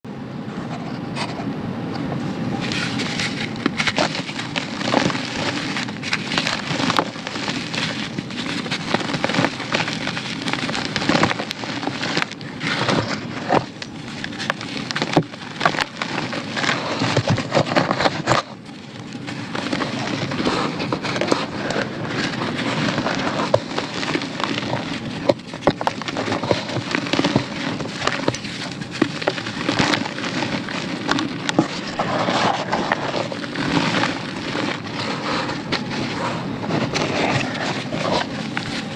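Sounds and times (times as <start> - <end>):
dry cake crumbles crunching: 2.4 - 38.9.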